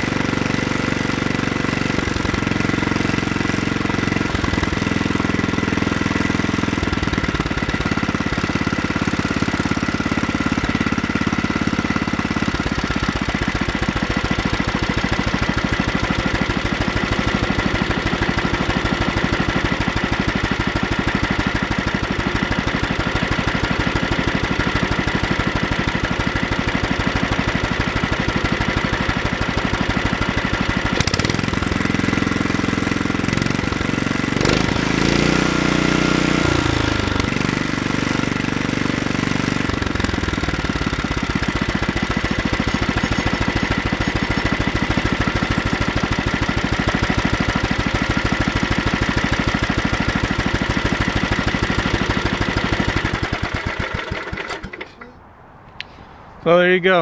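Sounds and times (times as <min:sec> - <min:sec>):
small engine idling: 0:00.0 - 0:55.2.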